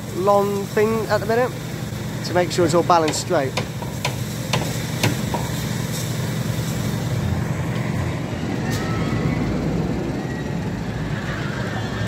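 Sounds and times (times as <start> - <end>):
diesel machinery droning: 0.0 - 12.0.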